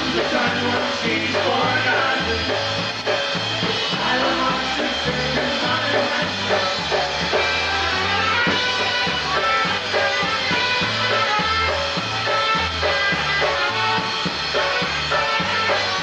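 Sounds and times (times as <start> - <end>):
bass line: 0.0 - 16.0
drum kit: 0.0 - 16.0
polka band playing: 0.0 - 16.0.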